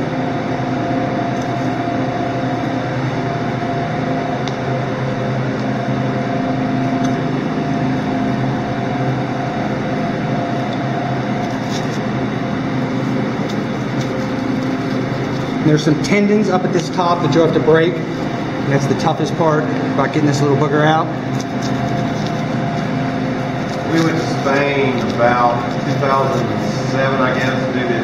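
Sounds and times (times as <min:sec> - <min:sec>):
machine hum with steady tones: 0:00.0 - 0:28.0.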